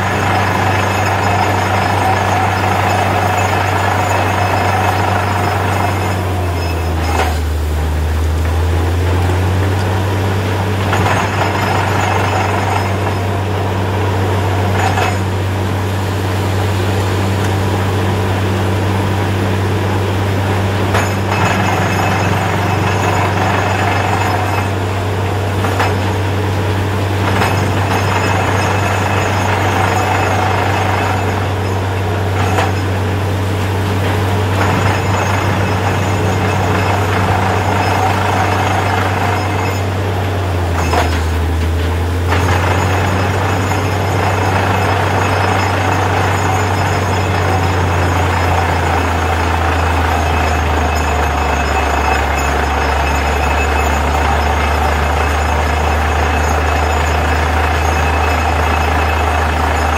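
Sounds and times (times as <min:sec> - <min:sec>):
engine and compressor drone: 0:00.0 - 0:59.9.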